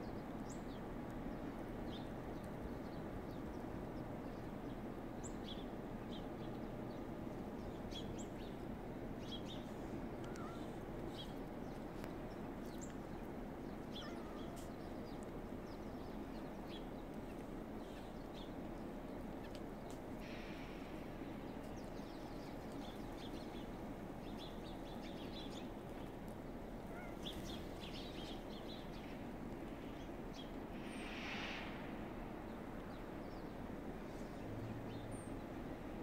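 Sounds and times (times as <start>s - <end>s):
low outdoor rumble: 0.0s - 36.0s
songbirds chirping: 0.0s - 36.0s.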